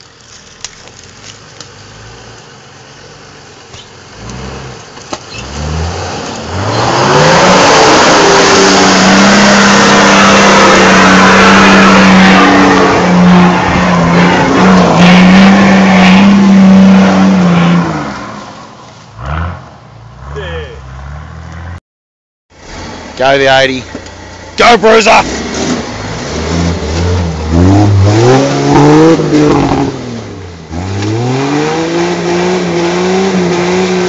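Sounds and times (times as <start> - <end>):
engine revving: 4.1 - 18.4, 19.2 - 21.8, 22.6 - 34.0.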